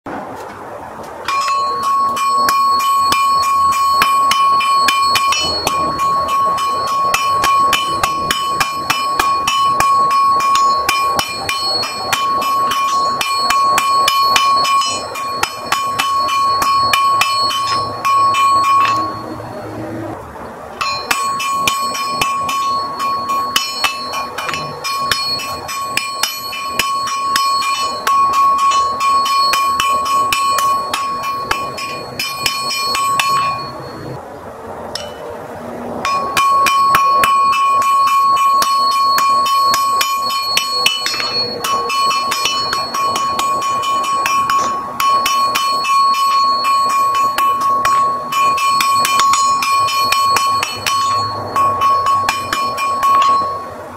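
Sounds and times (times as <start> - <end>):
hammer striking iron on anvil: 1.2 - 19.7, 20.8 - 34.2, 34.9 - 35.4, 36.0 - 53.8.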